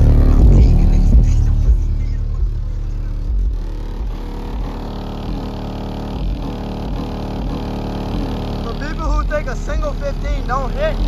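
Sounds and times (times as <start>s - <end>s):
pickup truck engine running: 0.0s - 11.0s.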